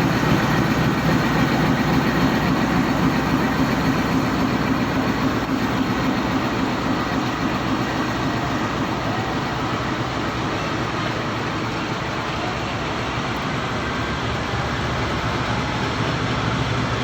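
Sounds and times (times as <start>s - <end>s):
diesel train rumbling on track: 0.0s - 17.0s.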